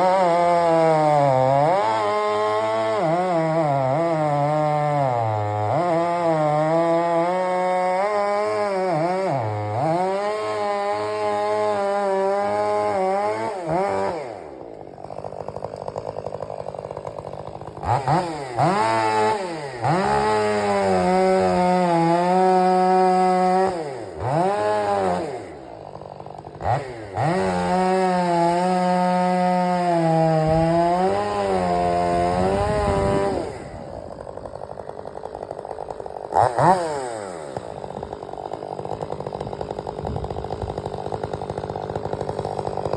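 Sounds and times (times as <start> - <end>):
chainsaw cutting and idling: 0.0 - 42.9.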